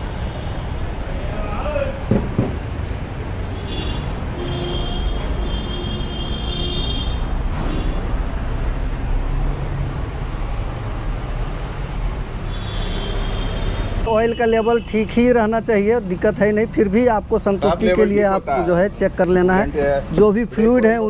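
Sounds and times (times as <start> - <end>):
low rumble of motor traffic: 0.0 - 21.0.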